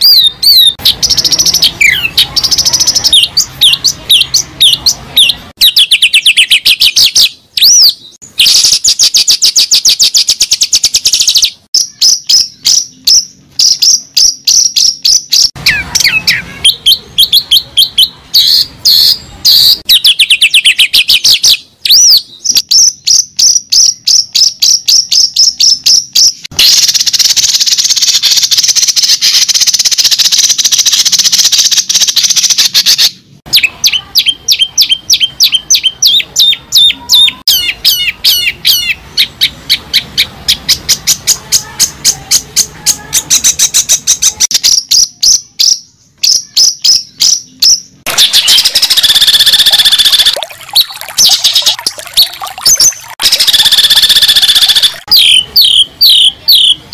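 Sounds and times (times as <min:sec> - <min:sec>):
bird chirps and trills: 0:00.0 - 0:56.9
harsh buzzy bird trill: 0:00.0 - 0:56.9.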